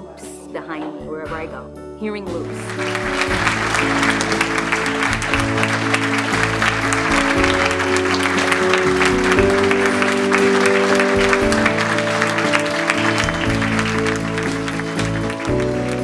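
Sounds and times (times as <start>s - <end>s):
music with slow held chords: 0.0s - 16.0s
audience applauding: 2.4s - 16.0s.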